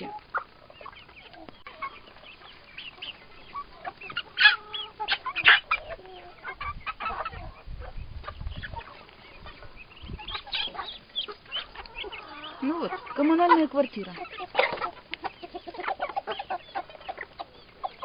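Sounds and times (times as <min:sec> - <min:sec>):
chicken squawks: 0:00.0 - 0:18.0
young chickens clucking and cheeping: 0:00.0 - 0:18.0.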